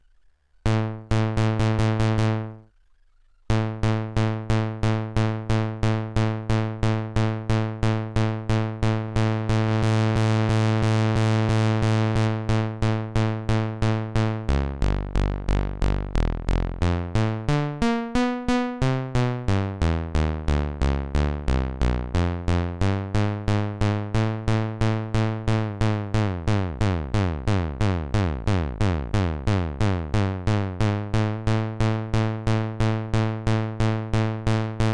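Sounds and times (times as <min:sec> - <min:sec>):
synthesized bassline: 0:00.6 - 0:02.7, 0:03.5 - 0:34.9.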